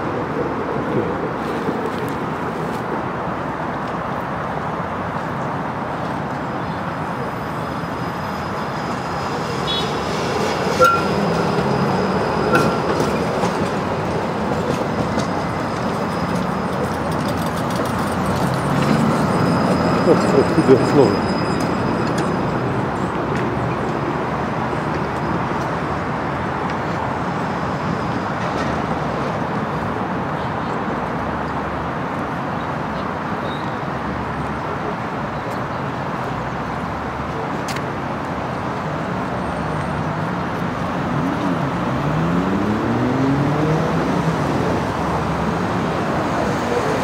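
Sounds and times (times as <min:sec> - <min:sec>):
street traffic: 0:00.0 - 0:47.0
tram rolling on rails: 0:00.0 - 0:47.0.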